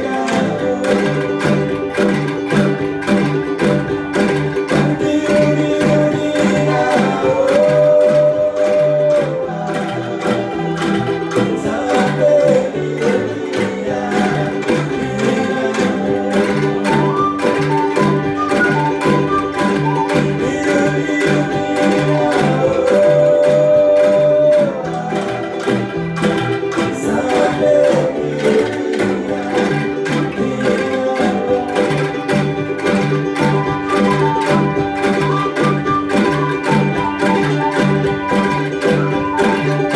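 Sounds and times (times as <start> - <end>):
bamboo angklung ensemble playing: 0.0 - 39.9.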